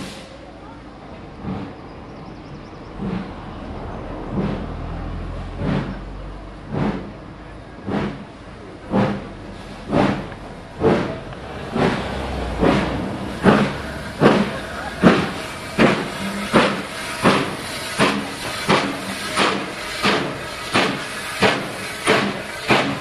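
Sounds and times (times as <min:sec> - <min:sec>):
steam locomotive exhaust beats: 0:00.0 - 0:23.0.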